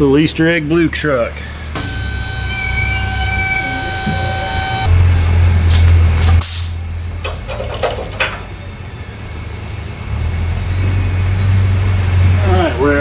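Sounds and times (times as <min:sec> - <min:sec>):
lift motor humming: 0:01.3 - 0:12.5.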